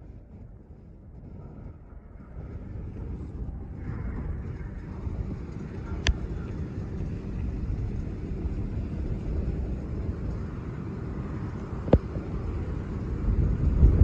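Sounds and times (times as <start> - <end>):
distant aircraft engine rumble: 0.0 - 14.0.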